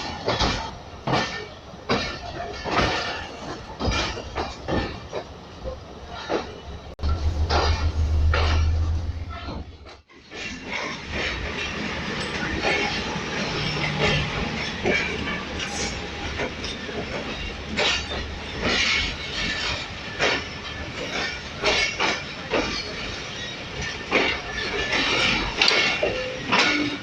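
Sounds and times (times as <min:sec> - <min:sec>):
metallic clanks of train wheels: 0:00.0 - 0:27.0
train rumbling on track: 0:00.0 - 0:27.0.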